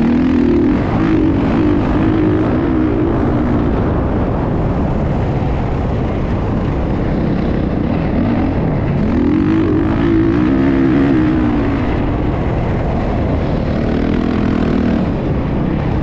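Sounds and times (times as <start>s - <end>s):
motocross bike engine running: 0.0s - 16.0s.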